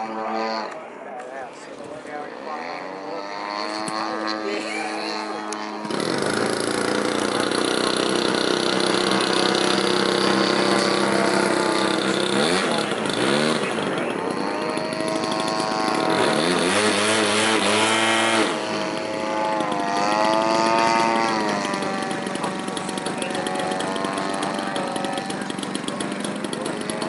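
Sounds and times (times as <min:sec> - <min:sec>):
model airplane engine drone: 0:00.0 - 0:27.0.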